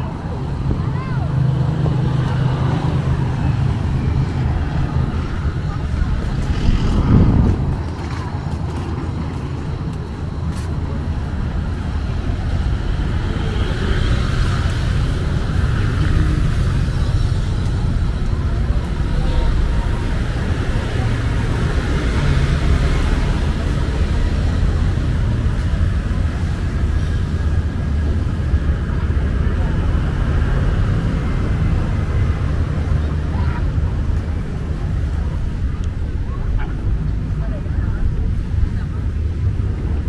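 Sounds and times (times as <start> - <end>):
faint voices: 0.0 - 40.0
motor traffic rumble: 0.0 - 40.0.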